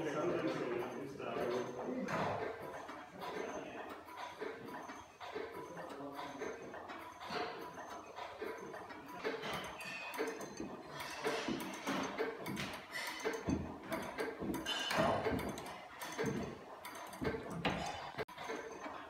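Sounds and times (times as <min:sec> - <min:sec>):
clock mechanism clicking: 0:00.0 - 0:19.0.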